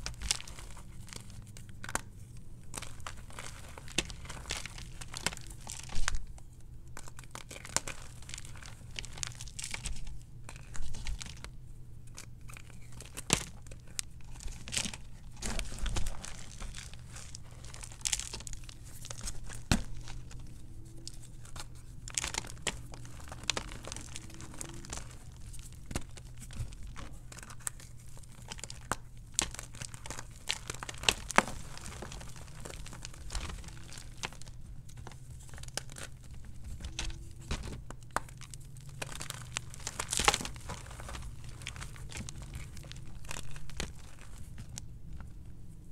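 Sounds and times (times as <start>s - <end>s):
hands crushing chalk: 0.0s - 45.9s.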